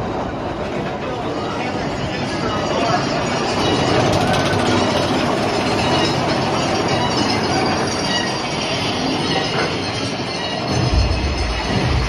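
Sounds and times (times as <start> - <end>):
roller coaster wheels on rail: 0.0 - 12.0.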